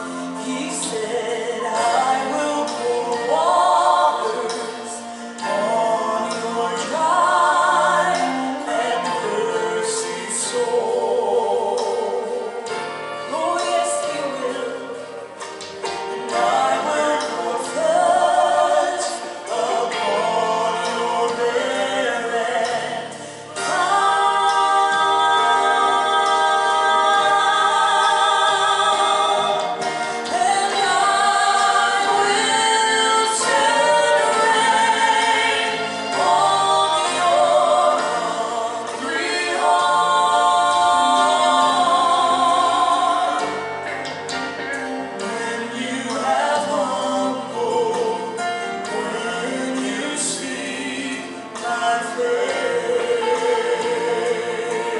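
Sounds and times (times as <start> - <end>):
congregation singing slow gospel: 0.0 - 54.9.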